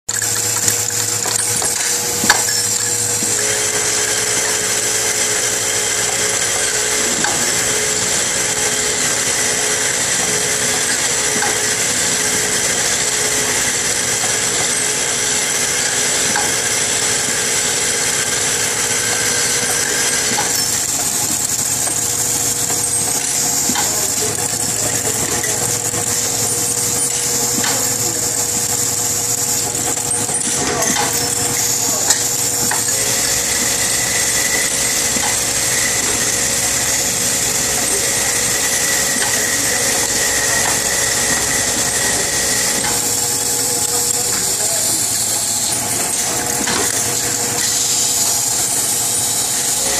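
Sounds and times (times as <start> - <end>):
machine hum: 0.1 - 49.9.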